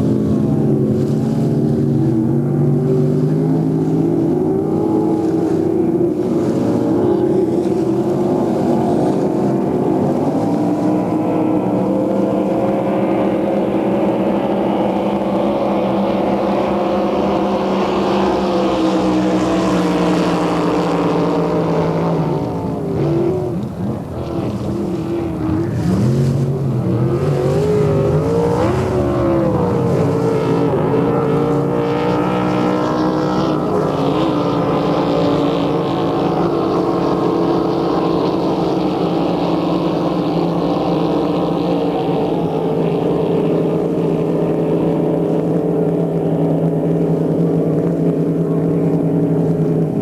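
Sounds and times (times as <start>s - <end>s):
motorboat engine running: 0.0s - 50.0s.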